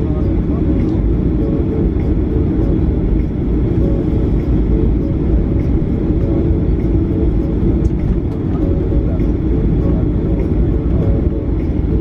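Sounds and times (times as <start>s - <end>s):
low rumble of taxiing airliner: 0.0s - 12.0s.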